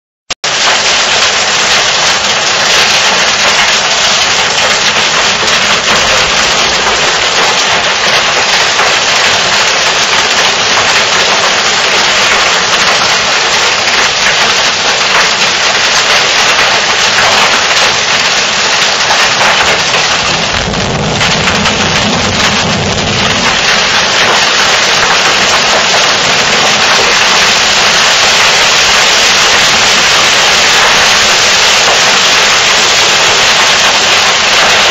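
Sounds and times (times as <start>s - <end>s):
hail and rain on wooden deck: 0.4s - 34.9s.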